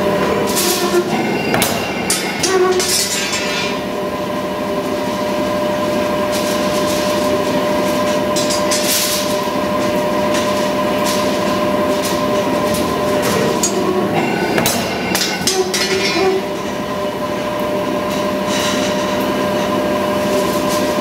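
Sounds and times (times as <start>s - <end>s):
machine whine: 0.0s - 21.0s.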